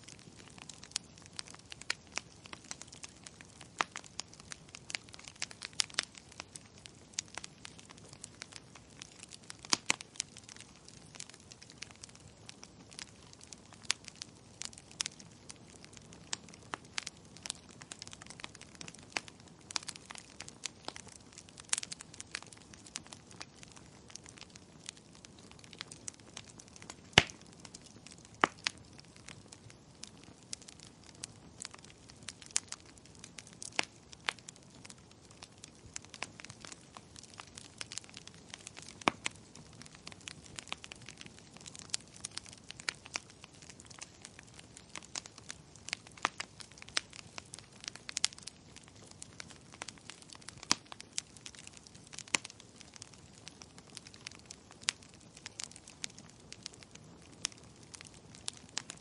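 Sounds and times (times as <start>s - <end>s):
faint steady hiss: 0.0s - 59.0s
fireplace fire crackling: 0.0s - 59.0s.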